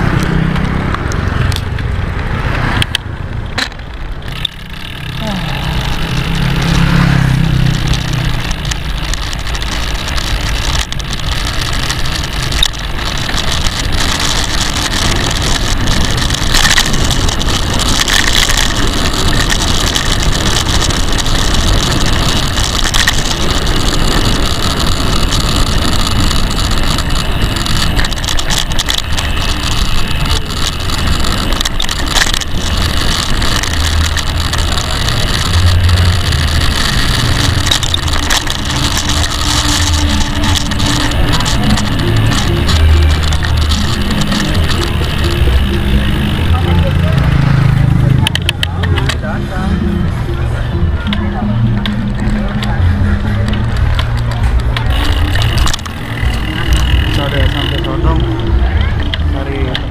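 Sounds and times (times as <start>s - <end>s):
rushing wind: 0.0s - 49.2s
bicycle road noise: 0.0s - 59.9s
low rumble: 0.0s - 59.9s.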